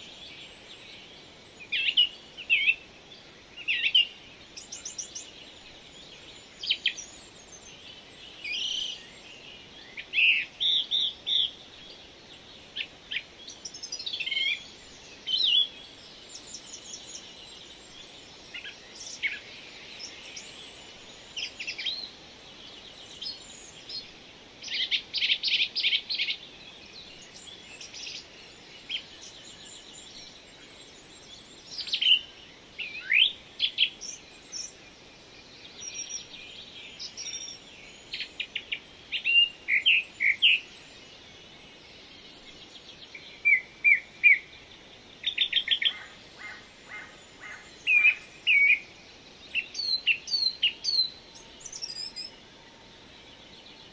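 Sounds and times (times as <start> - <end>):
faint steady hiss: 0.0 - 53.9
small birds singing: 0.0 - 53.9.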